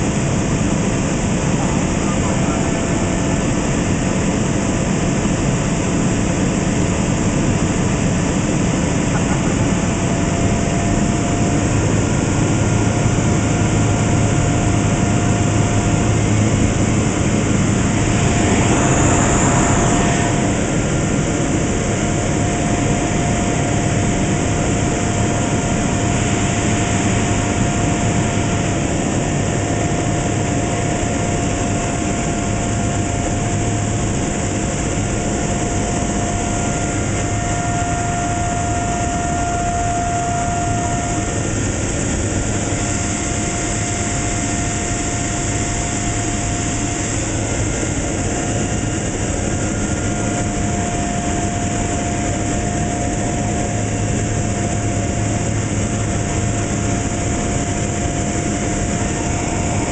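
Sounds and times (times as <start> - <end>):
aircraft engine droning: 0.0 - 59.9.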